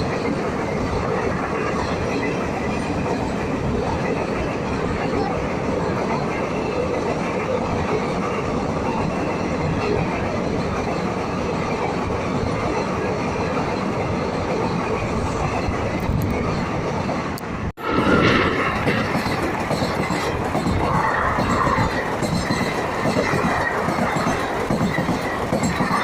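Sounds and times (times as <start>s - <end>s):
train passing at high speed: 0.0s - 26.0s.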